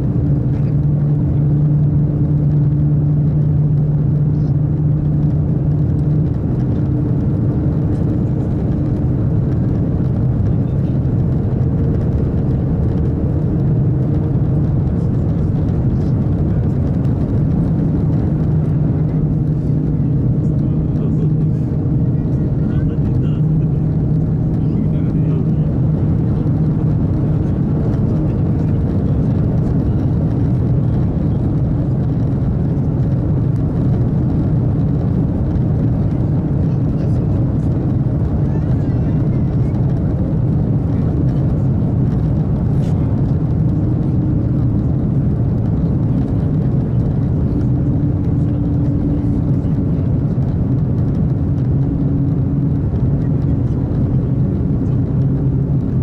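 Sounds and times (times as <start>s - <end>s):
constant hum: 0.0s - 56.0s
train cabin rumble: 0.0s - 56.0s.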